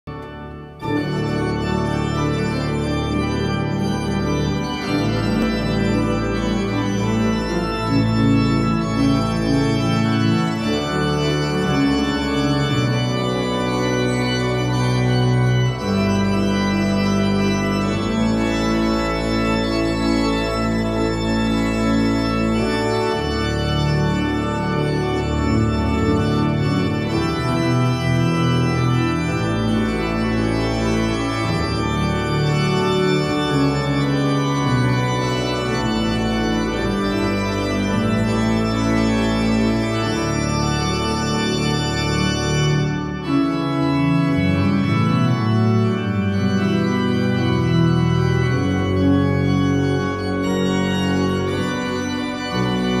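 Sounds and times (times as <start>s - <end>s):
church pipe organ chords: 0.0s - 53.0s.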